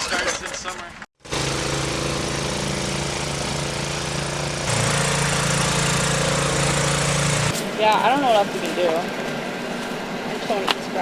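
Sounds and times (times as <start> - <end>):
small gasoline engine running: 1.2 - 11.0.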